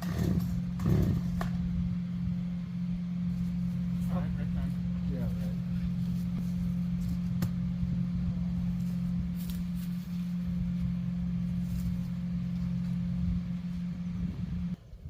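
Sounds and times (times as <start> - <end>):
small engine running: 0.0 - 14.8.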